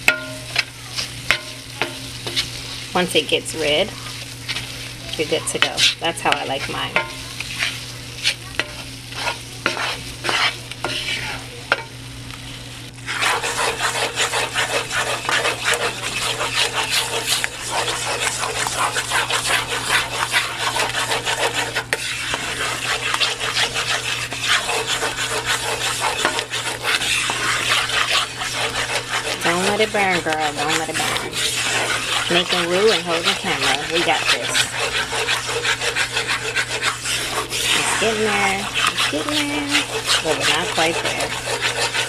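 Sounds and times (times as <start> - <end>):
spoon scraping a skillet: 0.0 - 12.0, 13.0 - 42.0
roux sizzling: 0.0 - 42.0.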